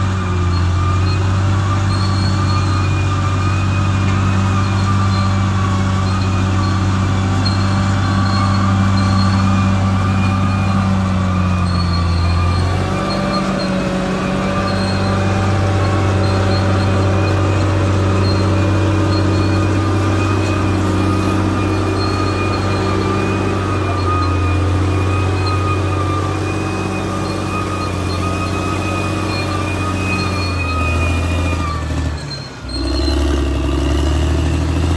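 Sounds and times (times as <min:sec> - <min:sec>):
bulldozer diesel engine whining: 0:00.0 - 0:34.9.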